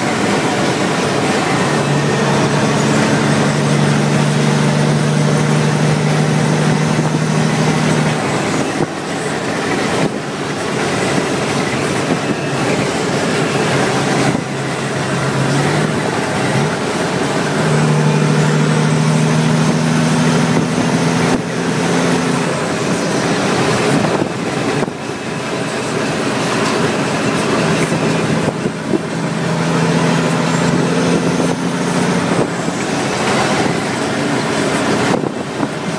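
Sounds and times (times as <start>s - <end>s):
diesel truck engine under load: 0.0s - 35.9s
road and wind noise: 0.0s - 35.9s.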